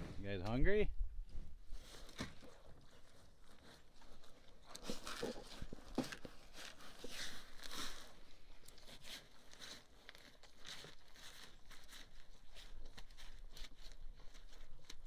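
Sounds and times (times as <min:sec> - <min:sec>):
bison crunching and chewing corn: 0:01.7 - 0:15.0.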